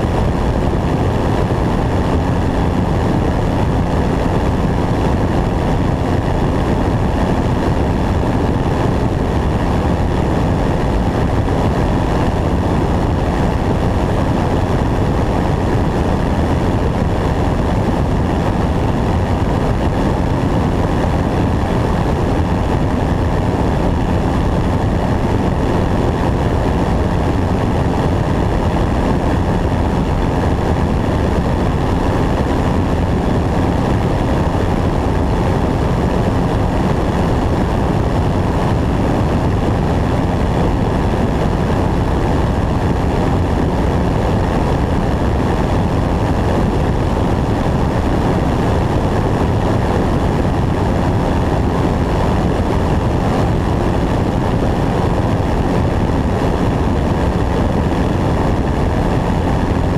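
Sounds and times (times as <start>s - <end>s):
propeller airplane engine droning: 0.0s - 59.9s.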